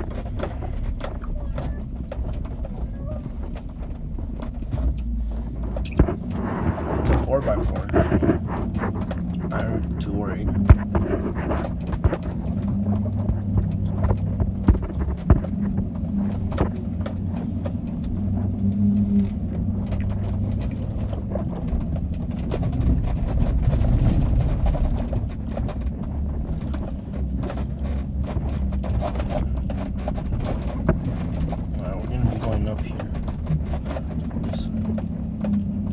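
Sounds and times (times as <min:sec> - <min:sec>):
knocks and clatters: 0:00.0 - 0:35.9
truck engine running: 0:00.0 - 0:35.9.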